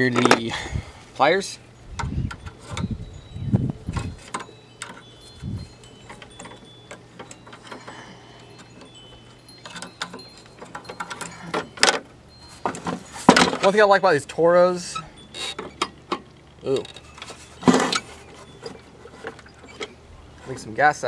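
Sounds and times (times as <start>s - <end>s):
pliers and metal parts clinking: 0.0s - 0.5s, 1.9s - 20.8s
faint metallic ringing: 0.0s - 21.0s.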